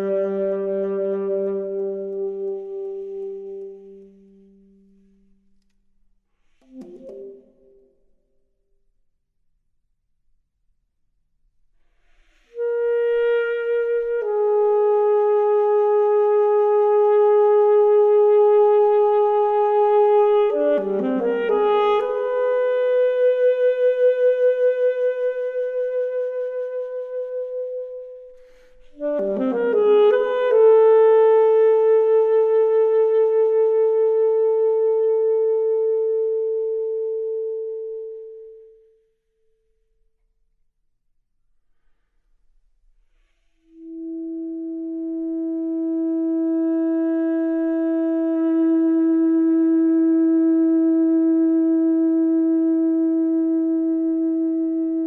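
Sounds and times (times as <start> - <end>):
woodwind instrument melody: 0.0 - 5.8, 6.4 - 8.4, 12.1 - 40.0, 43.2 - 55.0.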